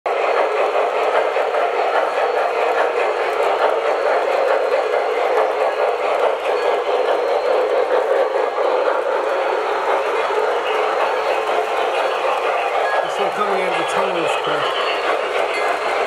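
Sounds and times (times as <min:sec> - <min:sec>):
model train rolling whir: 0:00.1 - 0:16.0.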